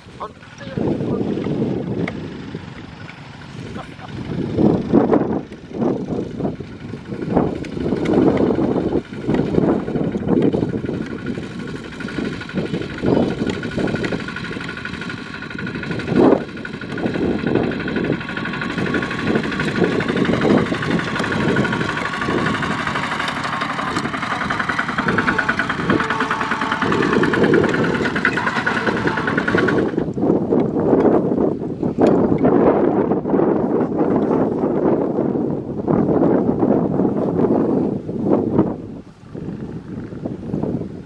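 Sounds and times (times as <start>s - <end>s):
diesel tractor engine running: 0.0s - 33.9s
wind noise on microphone: 0.0s - 41.0s.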